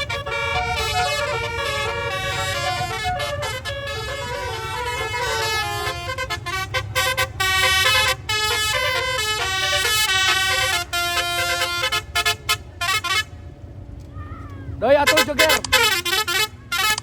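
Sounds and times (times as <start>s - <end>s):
multi-tone bus horn playing a tune: 0.0s - 14.0s, 14.8s - 17.0s.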